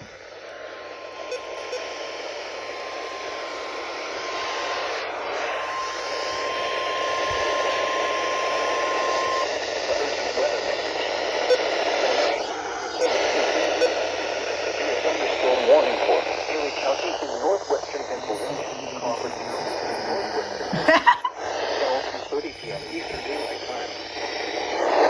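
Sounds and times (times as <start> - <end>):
steady alarm tone: 0.0 - 24.8
radio static hiss: 0.0 - 25.0.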